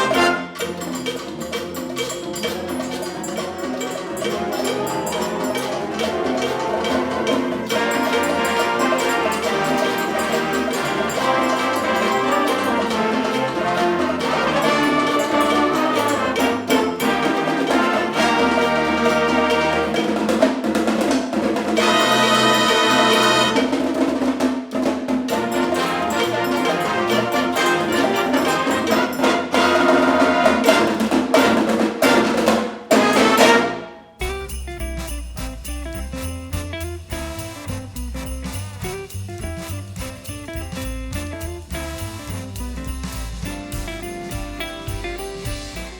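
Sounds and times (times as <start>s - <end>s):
brass band music: 0.0s - 24.4s, 25.3s - 45.9s
snare drum: 0.0s - 45.9s.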